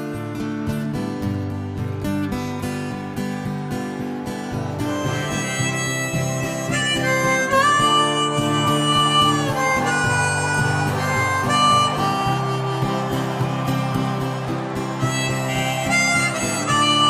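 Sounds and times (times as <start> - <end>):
acoustic guitar strumming: 0.0 - 17.0
harmonica melody: 1.2 - 17.0.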